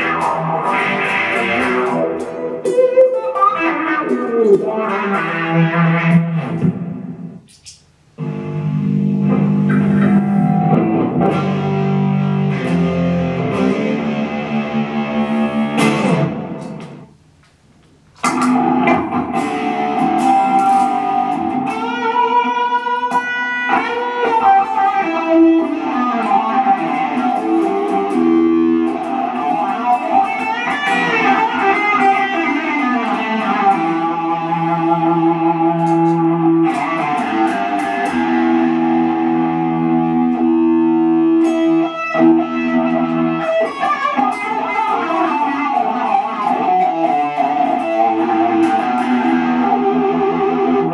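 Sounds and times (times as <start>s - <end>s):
electric guitar through amp: 0.0s - 50.9s.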